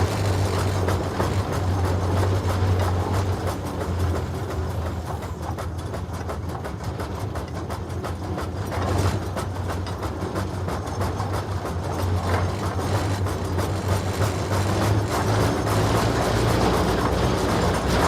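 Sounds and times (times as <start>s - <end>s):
steam engine machinery clattering: 0.0s - 18.0s.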